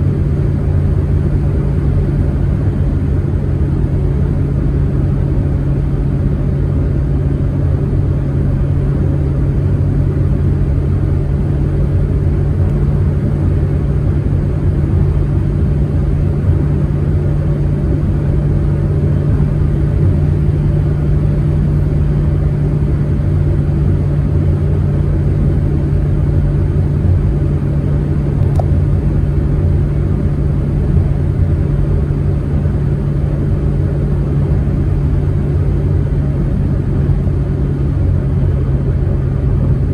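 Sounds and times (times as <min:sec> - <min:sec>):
car engine drone: 0:00.0 - 0:39.9
road and tyre rumble: 0:00.0 - 0:39.9.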